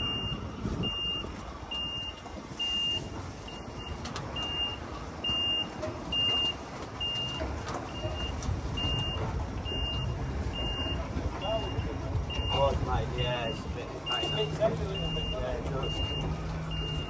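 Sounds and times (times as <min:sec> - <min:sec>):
diesel engine rumble: 0:00.0 - 0:17.0
truck reversing alarm beeping: 0:00.0 - 0:17.0.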